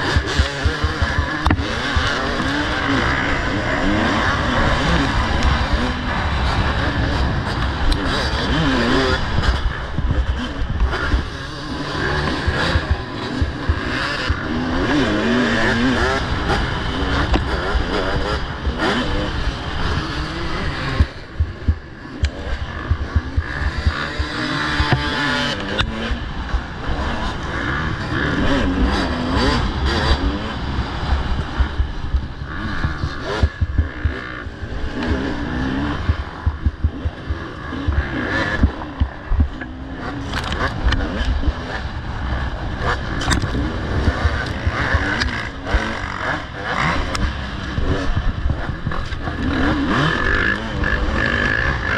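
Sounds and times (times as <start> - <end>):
motorcycle engines revving: 0.0 - 51.9.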